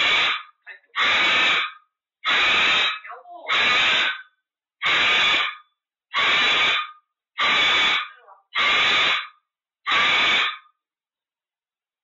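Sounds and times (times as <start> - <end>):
parrot screeching: 0.0 - 10.7.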